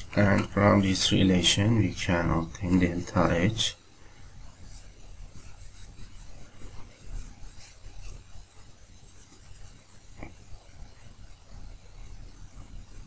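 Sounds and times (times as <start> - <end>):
faint rubbing and scratching: 0.0 - 13.0
low steady hum: 0.0 - 13.0.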